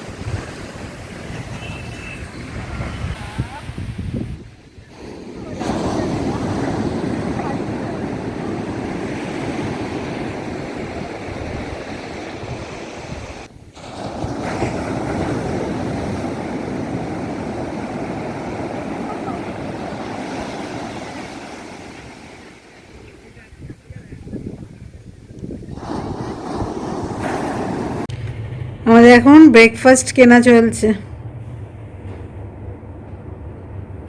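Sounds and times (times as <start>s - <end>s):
sea surf washing on shore: 0.0s - 28.1s
wind buffeting microphone: 0.0s - 29.9s.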